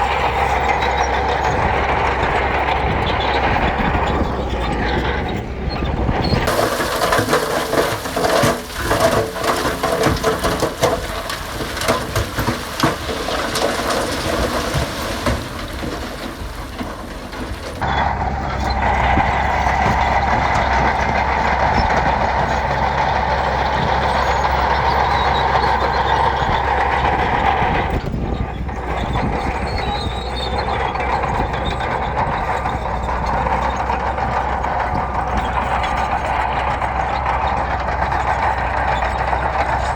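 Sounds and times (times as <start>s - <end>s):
diesel machinery engine: 0.0s - 39.9s
gravel clattering and crunching: 0.0s - 39.9s.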